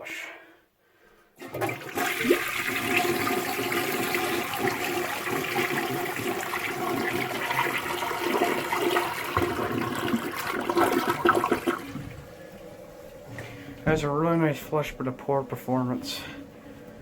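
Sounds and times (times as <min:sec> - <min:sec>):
toilet flushing: 0:01.4 - 0:17.0.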